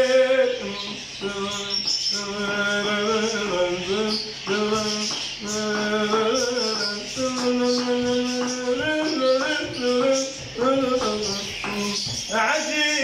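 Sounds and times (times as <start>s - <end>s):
man singing long held notes: 0.0s - 13.0s.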